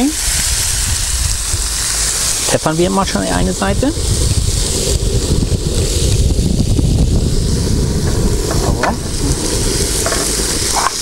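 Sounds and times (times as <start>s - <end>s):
steady low rumble: 0.0s - 11.0s
steaks sizzling in a grill pan: 0.0s - 11.0s.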